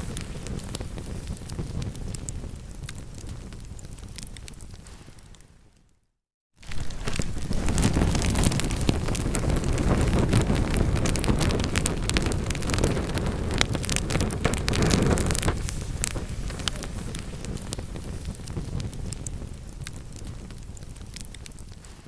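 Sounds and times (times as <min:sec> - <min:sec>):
fire crackling and popping: 0:00.0 - 0:05.9, 0:06.6 - 0:22.0.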